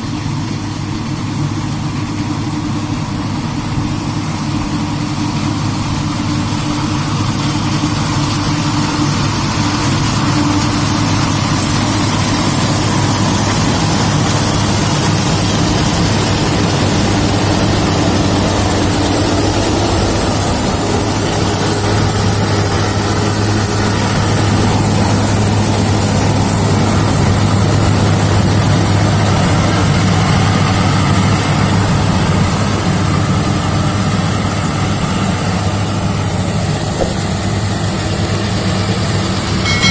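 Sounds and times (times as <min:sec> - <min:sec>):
combine harvester engine hum: 0:00.0 - 0:39.9
machinery noise: 0:00.0 - 0:39.9.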